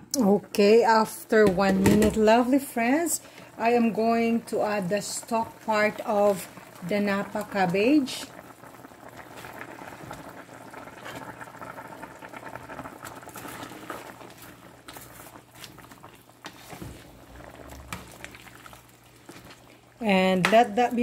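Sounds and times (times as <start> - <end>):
soup boiling in a pot: 0.1 - 21.0.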